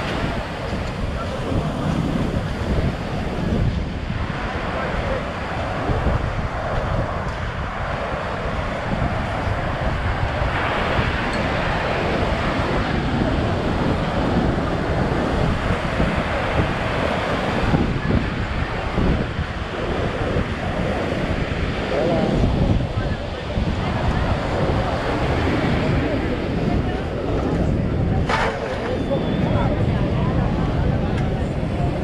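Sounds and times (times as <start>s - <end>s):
ocean surf breaking: 0.0s - 32.0s
wind buffeting microphone: 0.0s - 32.0s.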